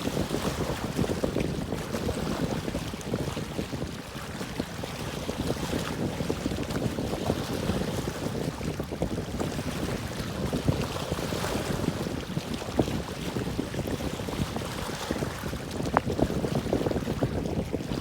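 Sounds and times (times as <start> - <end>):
water lapping by boats: 0.0 - 18.0
wind buffeting microphone: 0.0 - 18.0.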